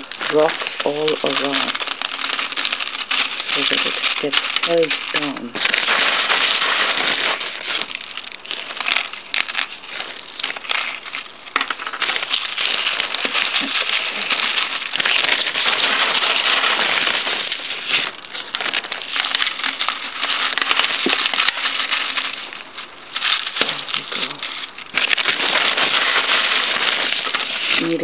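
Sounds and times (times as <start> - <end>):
lava rock clicking and crackling: 0.0 - 28.0.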